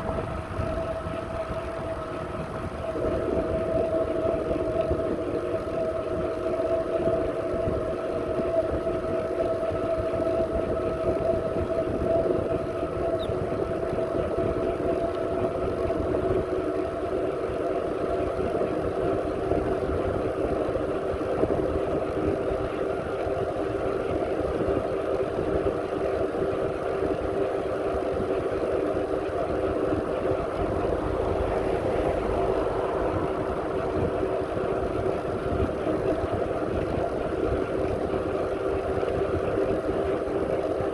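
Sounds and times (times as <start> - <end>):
bicycle whine: 0.0 - 40.9
wind rumble on microphone: 0.0 - 40.9.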